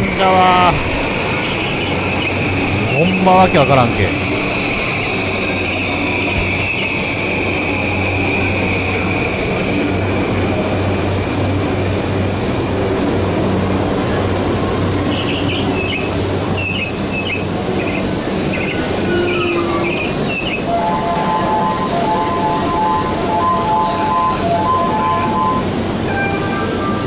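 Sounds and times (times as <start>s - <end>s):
high wheel squeal: 0.0s - 10.9s, 15.0s - 27.0s
electric train humming: 0.0s - 27.0s.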